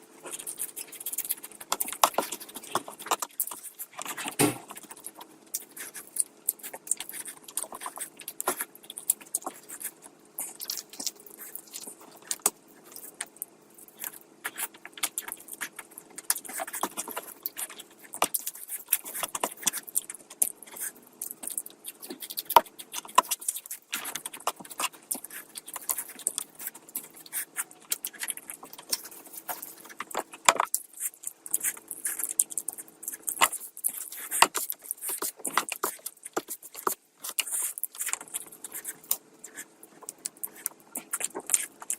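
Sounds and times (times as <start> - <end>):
faint steady hum: 0.0 - 41.9
chewing and mouth clicks: 0.2 - 41.9.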